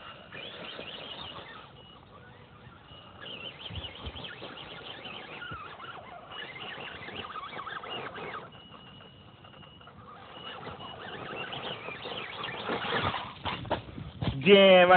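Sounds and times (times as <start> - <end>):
rc car motor whining: 0.0 - 13.8.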